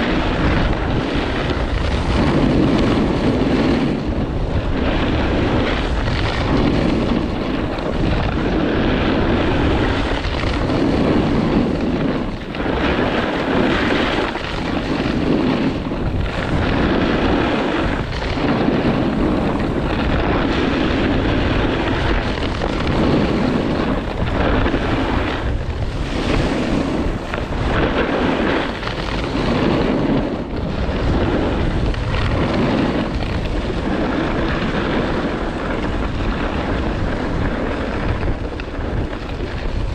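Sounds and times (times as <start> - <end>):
snowboard scraping over snow: 0.0 - 39.9
wind on microphone: 0.0 - 39.9.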